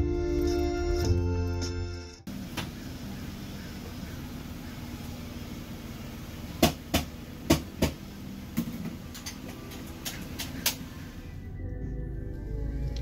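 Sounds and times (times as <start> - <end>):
steady low hum: 2.3 - 13.0.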